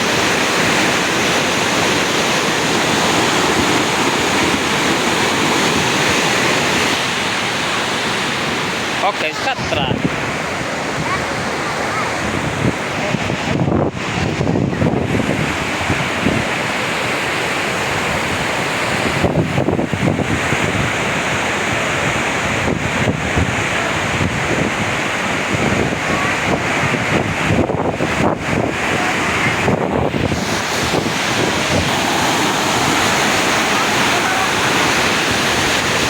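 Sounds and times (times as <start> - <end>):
mountain stream rushing: 0.0 - 36.0.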